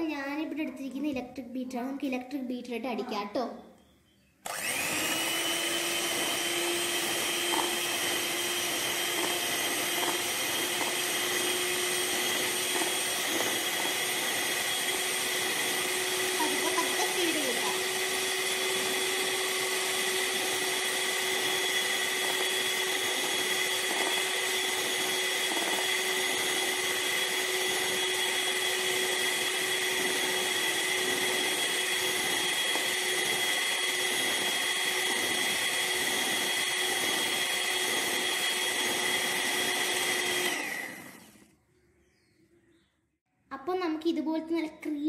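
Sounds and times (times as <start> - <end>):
electric beater whining: 4.4 - 41.5.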